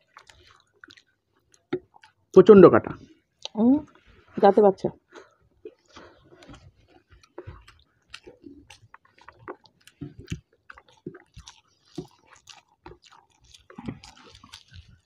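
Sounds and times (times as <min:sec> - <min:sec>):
chewing and wet mouth smacks: 0:00.0 - 0:02.4, 0:03.0 - 0:04.1, 0:05.1 - 0:15.0.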